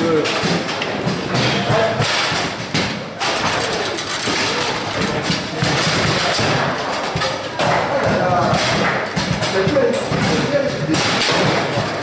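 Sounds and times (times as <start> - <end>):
foosball rods rattling: 0.0 - 12.0
steady noisy din: 0.0 - 12.0.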